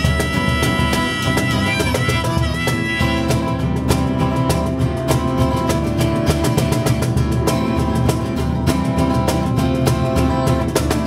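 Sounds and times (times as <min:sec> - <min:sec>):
hand percussion: 0:00.0 - 0:11.0
shaker beat: 0:00.0 - 0:11.0
strummed acoustic guitar: 0:00.0 - 0:11.0.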